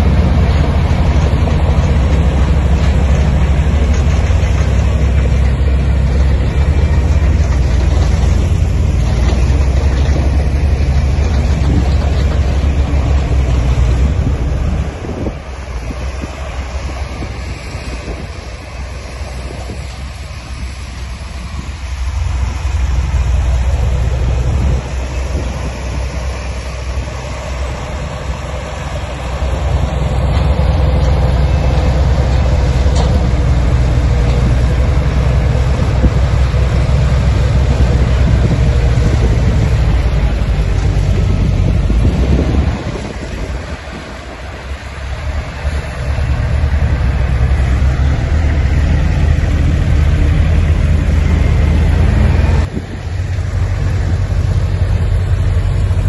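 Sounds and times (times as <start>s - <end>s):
diesel construction machinery running: 0.0s - 56.0s.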